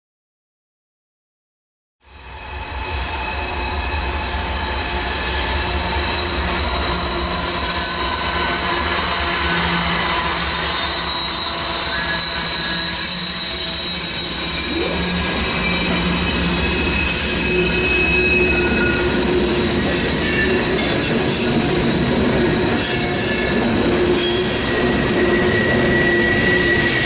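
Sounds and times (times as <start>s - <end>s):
wheels squealing on rail: 2.0s - 27.0s.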